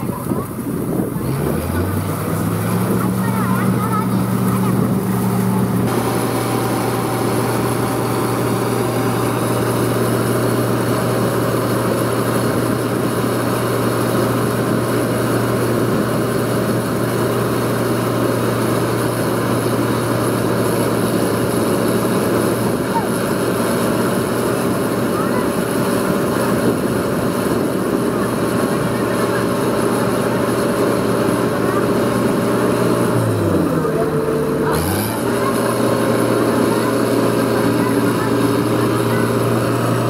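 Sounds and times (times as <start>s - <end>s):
combine harvester engine hum: 0.0s - 40.0s
grain pouring from auger: 0.2s - 40.0s.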